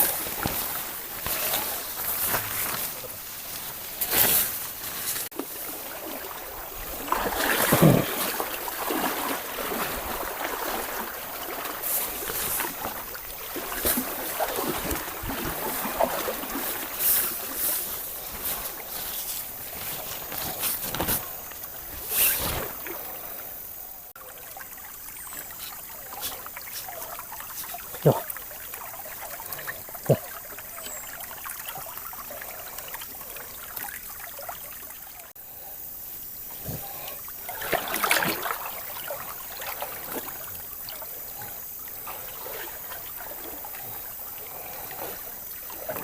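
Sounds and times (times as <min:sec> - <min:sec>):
water splashes: 0:00.0 - 0:46.0.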